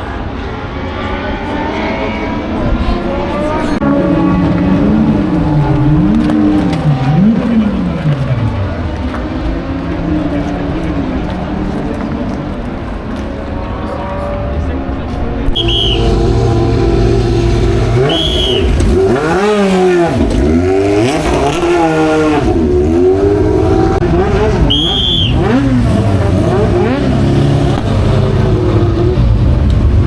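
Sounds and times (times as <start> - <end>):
racing car engines passing: 0.0 - 30.0.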